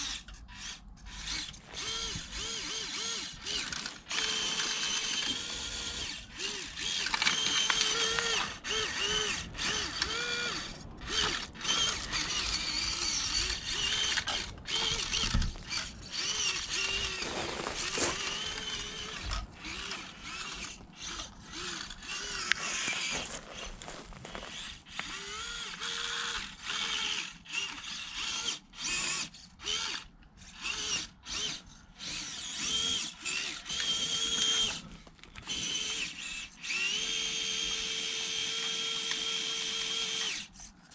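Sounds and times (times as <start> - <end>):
small electric motor whining: 0.0 - 40.9.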